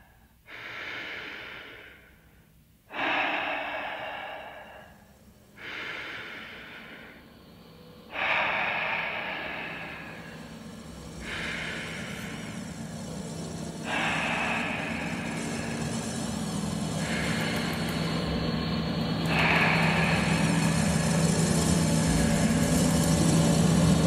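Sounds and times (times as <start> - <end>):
heavy human breaths: 0.0 - 24.0
low steady hum: 0.0 - 24.0.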